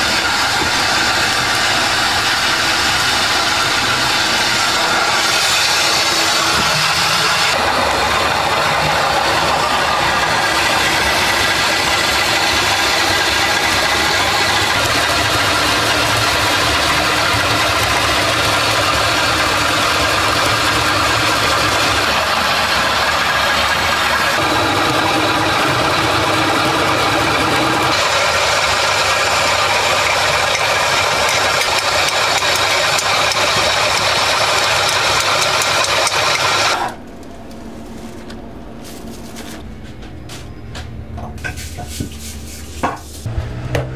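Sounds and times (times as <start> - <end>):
potato grating machine running: 0.0 - 40.5.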